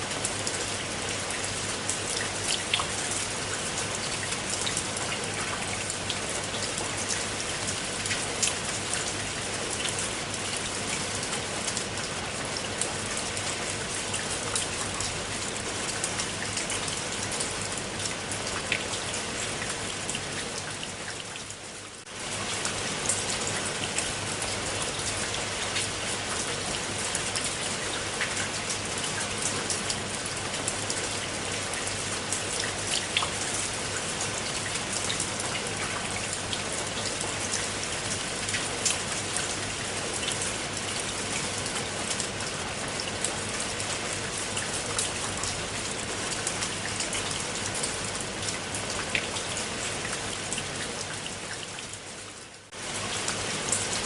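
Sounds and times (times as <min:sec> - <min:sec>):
rain falling onto water: 0:00.0 - 0:54.0.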